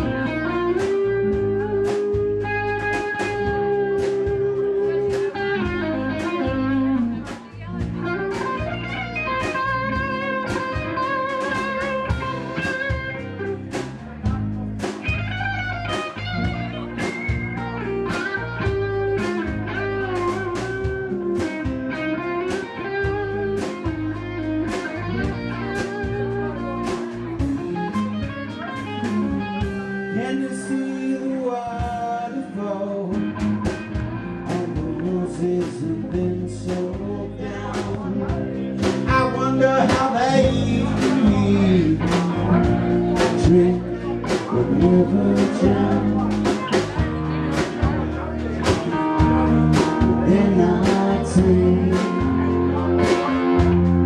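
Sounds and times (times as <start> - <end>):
drum beat: 0.0 - 29.9, 37.7 - 54.0
bass: 0.0 - 54.0
electric guitar lead: 0.0 - 54.0.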